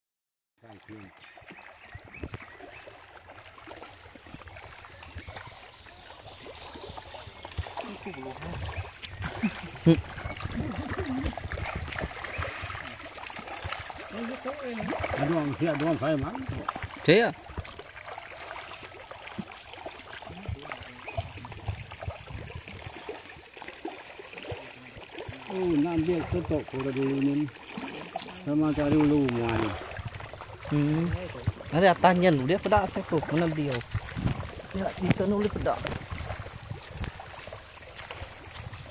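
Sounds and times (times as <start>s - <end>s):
flowing river water: 0.6s - 38.9s
fish splashing in water: 0.8s - 38.9s.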